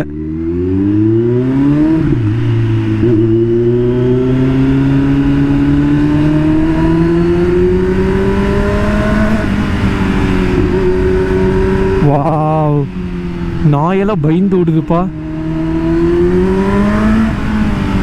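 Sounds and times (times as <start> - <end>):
motorbike engine accelerating: 0.0 - 18.0.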